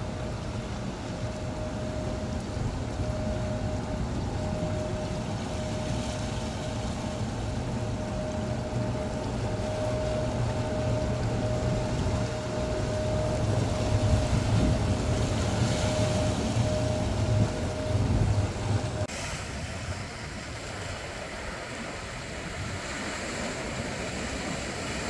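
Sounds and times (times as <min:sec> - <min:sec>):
boat engine humming: 0:00.0 - 0:25.0
rush of wind and water: 0:00.0 - 0:25.0.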